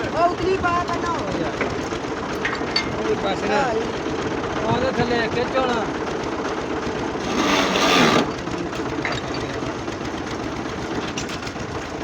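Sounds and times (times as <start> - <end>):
diesel engine clattering: 0.0 - 12.0.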